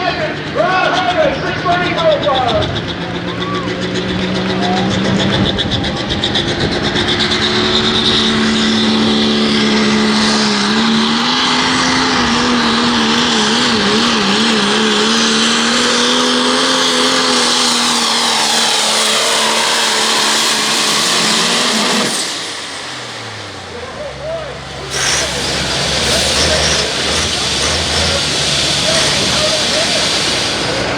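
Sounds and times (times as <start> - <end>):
high whine: 0.0 - 30.9
truck engine at full throttle: 0.0 - 30.9.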